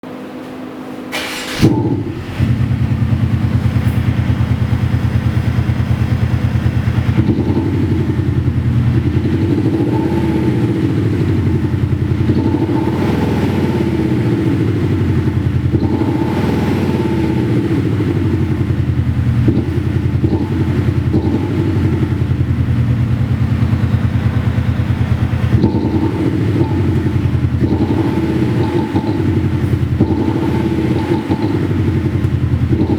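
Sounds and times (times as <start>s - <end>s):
car engine idling and revving: 1.2s - 32.9s
synthetic sporty exhaust note: 1.2s - 32.9s.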